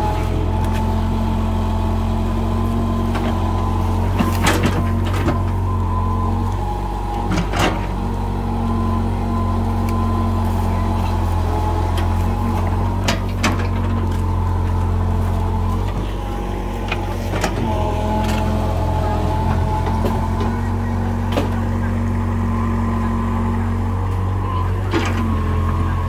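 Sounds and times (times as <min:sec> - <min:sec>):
excavator diesel engine running: 0:00.0 - 0:26.0
hydraulic whine: 0:00.0 - 0:26.0.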